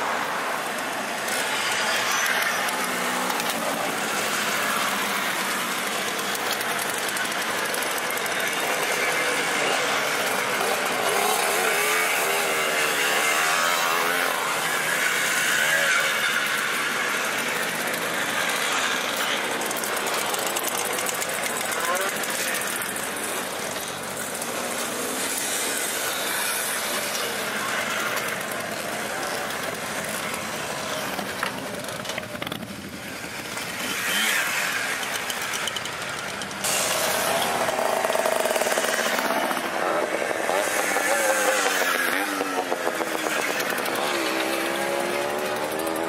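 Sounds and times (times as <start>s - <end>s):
mopeds and motorcycles passing: 0.0s - 46.0s.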